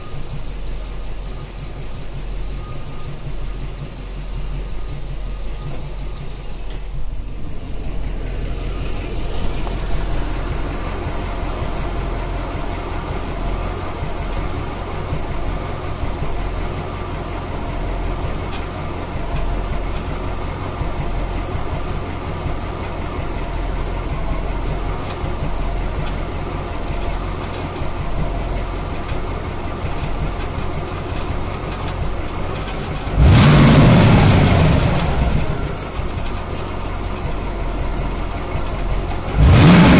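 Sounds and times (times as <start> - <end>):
car engine idling: 0.0 - 39.9
engine ticking: 0.0 - 39.9
rattle: 0.0 - 39.9
engine revving: 6.1 - 39.9.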